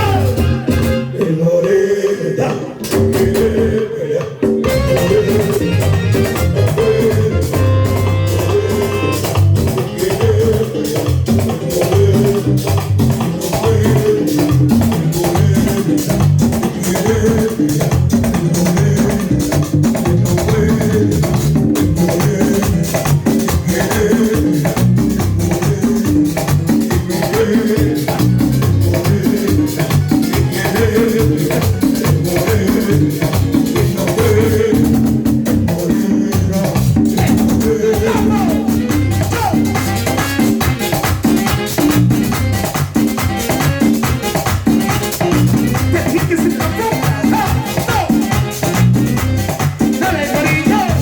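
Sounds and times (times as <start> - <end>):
live band playing merengue: 0.0 - 51.0
hand percussion: 4.4 - 51.0.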